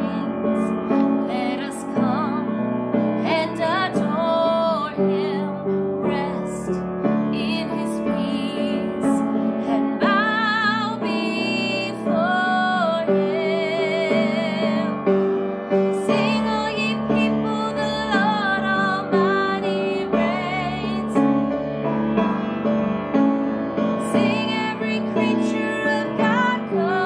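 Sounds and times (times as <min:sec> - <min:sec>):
woman singing: 0:00.0 - 0:15.2, 0:15.8 - 0:21.4, 0:24.0 - 0:27.0
piano accompaniment: 0:00.0 - 0:27.0.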